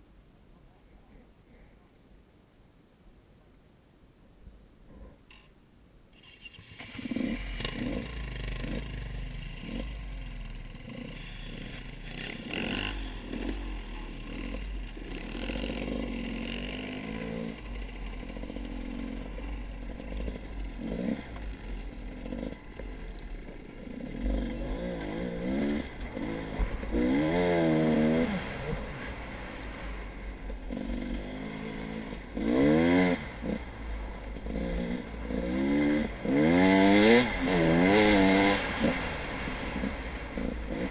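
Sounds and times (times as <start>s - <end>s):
motorbike engine revving: 6.4s - 40.9s.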